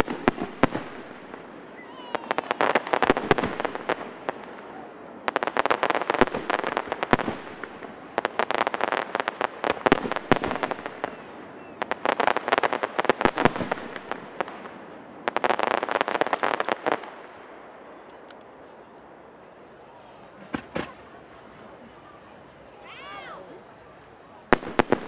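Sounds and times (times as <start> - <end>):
fireworks crackling bangs: 0.0 - 19.2, 20.3 - 22.0, 24.4 - 25.0.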